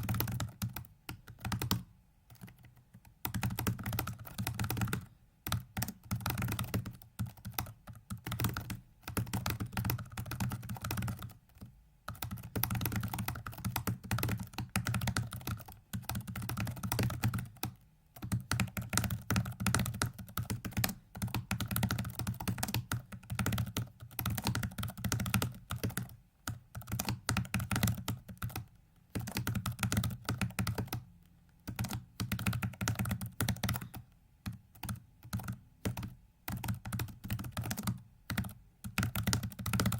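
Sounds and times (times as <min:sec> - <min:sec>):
keyboard keys pressed rapidly: 0:00.0 - 0:39.9.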